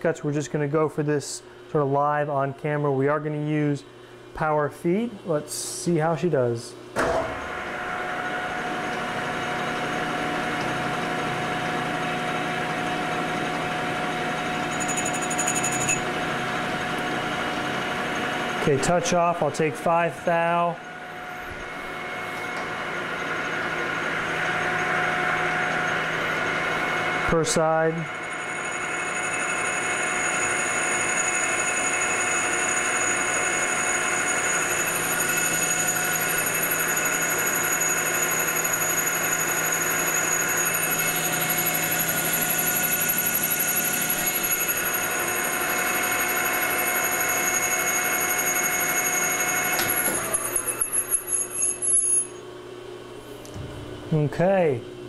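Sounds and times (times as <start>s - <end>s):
metal lathe motor hum: 7.3s - 18.7s, 19.5s - 52.4s.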